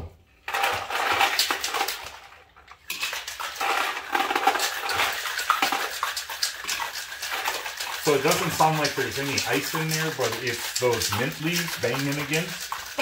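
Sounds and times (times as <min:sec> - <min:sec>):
ice rattling in cocktail shaker: 0:00.4 - 0:13.0.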